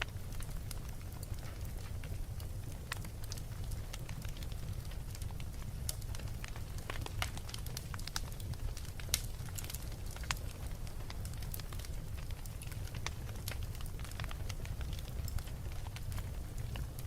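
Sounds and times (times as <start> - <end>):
fire popping: 0.0 - 17.0
low rumble of flames: 0.0 - 17.0
wood fire crackling: 0.0 - 17.0.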